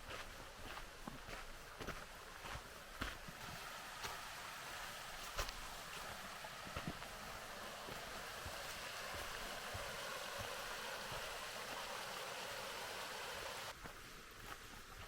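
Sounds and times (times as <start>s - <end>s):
rushing water: 1.6s - 15.0s.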